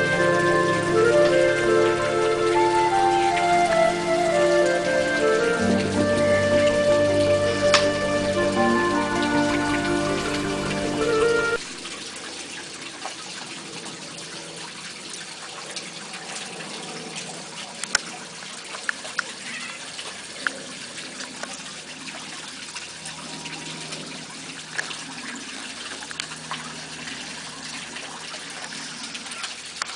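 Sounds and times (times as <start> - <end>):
water dripping: 0.0 - 29.9
water trickling: 0.0 - 29.9.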